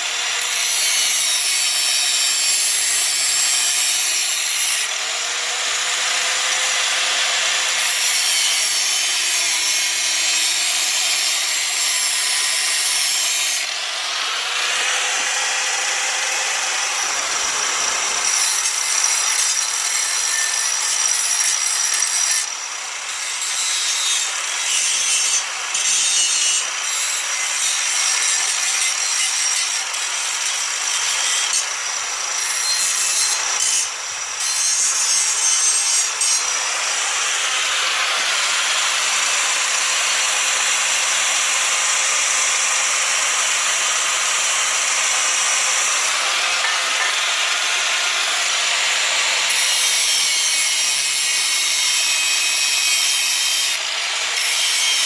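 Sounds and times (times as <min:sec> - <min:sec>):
angle grinder grinding steel: 0:00.0 - 0:55.0.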